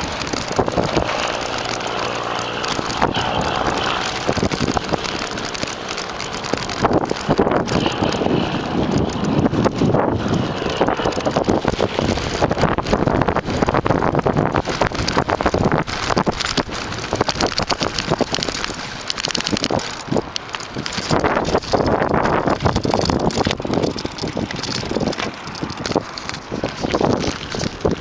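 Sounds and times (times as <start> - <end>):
bicycle rattling on rough track: 0.0 - 28.0
wind buffeting microphone: 0.0 - 28.0.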